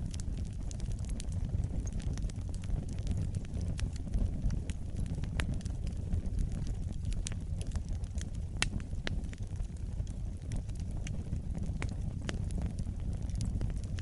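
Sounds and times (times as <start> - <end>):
fire crackling and popping: 0.0 - 14.0
fire rumbling: 0.0 - 14.0.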